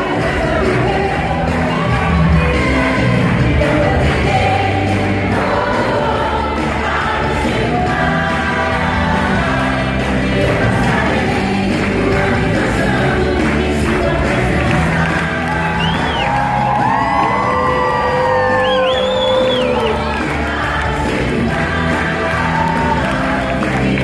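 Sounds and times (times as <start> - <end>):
choir music over speakers: 0.0 - 24.0.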